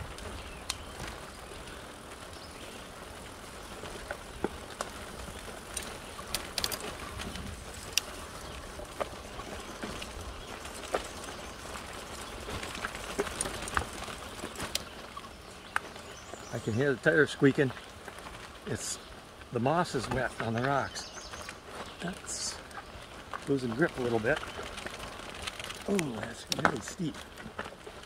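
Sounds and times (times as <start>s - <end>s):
stones clicking under wheels: 0.0s - 28.0s
tires crunching over dirt trail: 0.0s - 28.0s.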